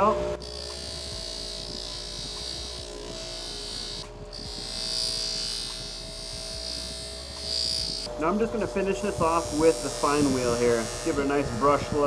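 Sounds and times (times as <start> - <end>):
abrasive wheel running: 0.0 - 12.0.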